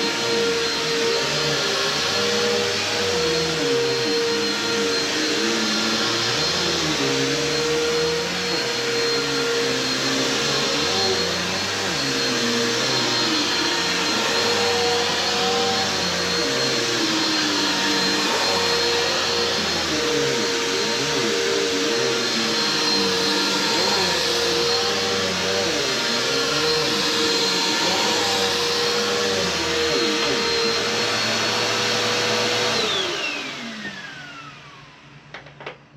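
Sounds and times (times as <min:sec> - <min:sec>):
vacuum cleaner motor whine: 0:00.0 - 0:35.8.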